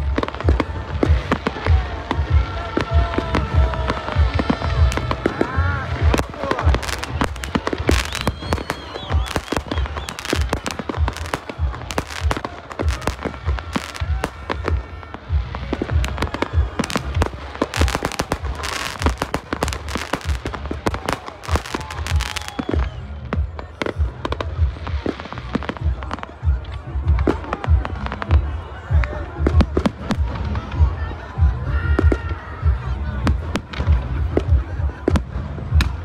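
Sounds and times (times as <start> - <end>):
deep fireworks thumps: 0.0 - 36.0
fireworks bangs and crackles: 0.0 - 36.0.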